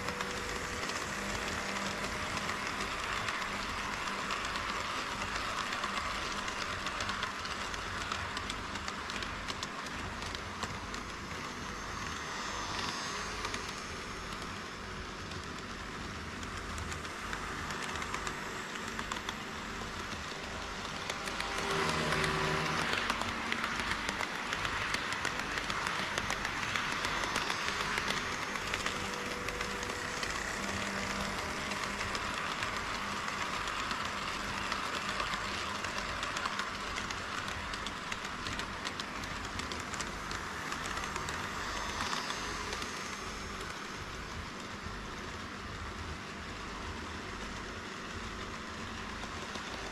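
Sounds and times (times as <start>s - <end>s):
model trains whirring: 0.0s - 49.9s.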